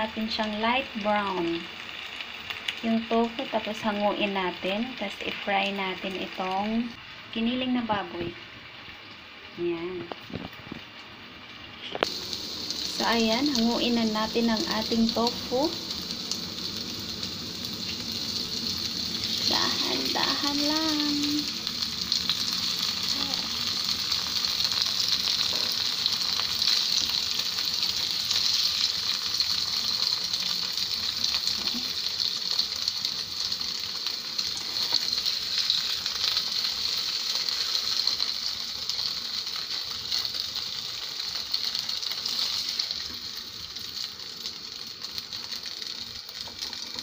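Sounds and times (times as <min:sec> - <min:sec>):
tofu sizzling in hot oil: 0:00.0 - 0:47.0.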